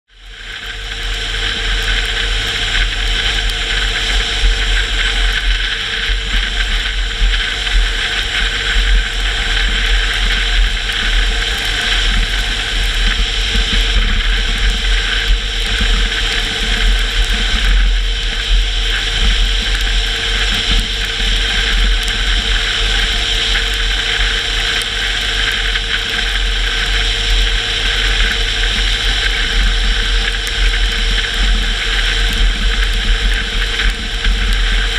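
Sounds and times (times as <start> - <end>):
car engine drone: 0.1 - 34.9.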